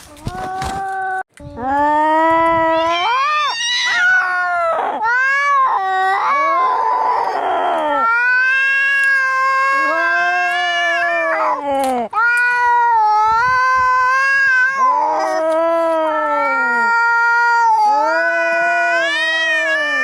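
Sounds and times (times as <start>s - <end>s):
cats yowling in a fight: 2.7s - 11.6s, 12.2s - 20.0s.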